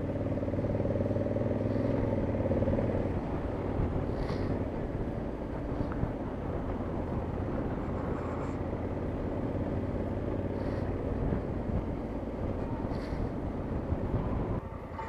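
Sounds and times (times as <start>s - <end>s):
motorcycle engine running: 0.0s - 14.6s
road noise: 0.0s - 15.0s.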